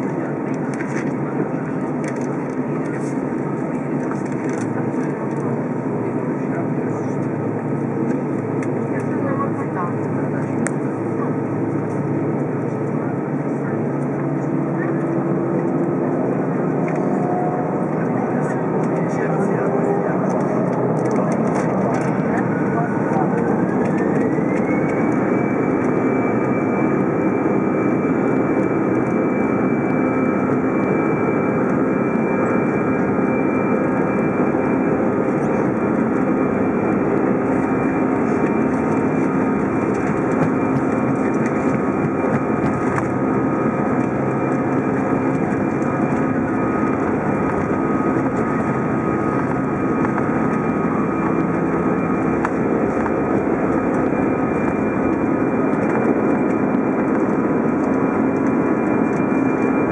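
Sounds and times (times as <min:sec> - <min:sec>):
high engine whine: 0:00.0 - 0:59.9
jet engines running in cabin: 0:00.0 - 0:59.9.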